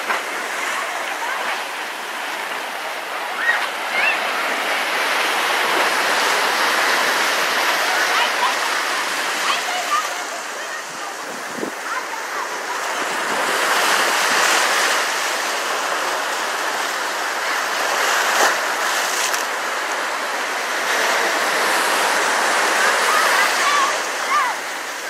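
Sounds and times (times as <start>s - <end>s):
surf washing among rocks: 0.0s - 25.0s.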